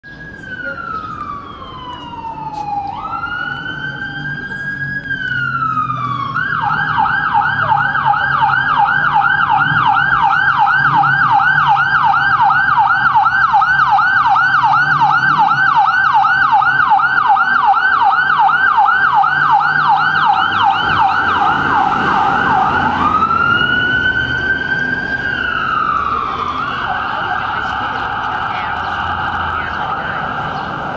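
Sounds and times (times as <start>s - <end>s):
ambulance siren wailing and yelping: 0.0s - 30.9s
engine and traffic rumble: 0.0s - 30.9s.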